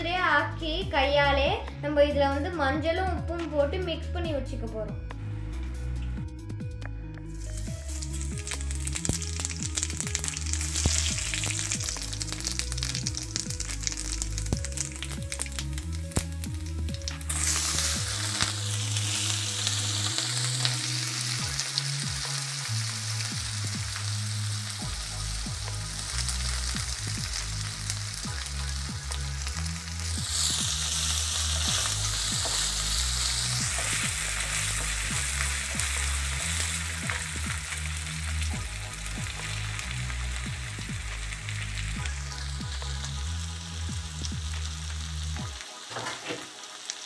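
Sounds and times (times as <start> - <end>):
background music: 0.0 - 47.0
spices sizzling in hot oil: 7.3 - 47.0.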